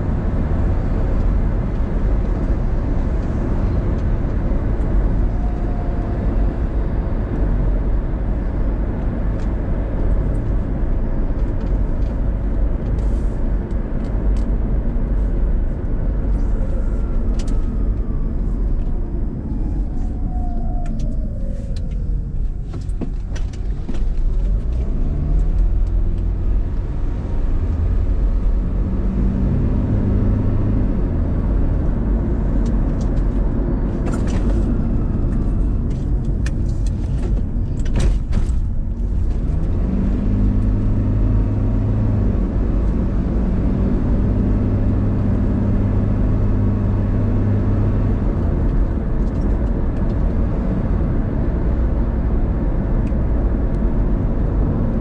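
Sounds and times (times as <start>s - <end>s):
car engine and road noise: 0.0s - 55.0s
low engine hum: 0.0s - 55.0s.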